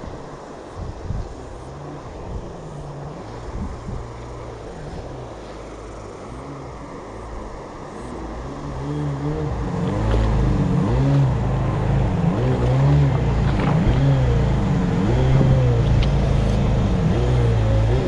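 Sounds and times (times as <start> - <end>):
jet boat engine: 0.0 - 18.0.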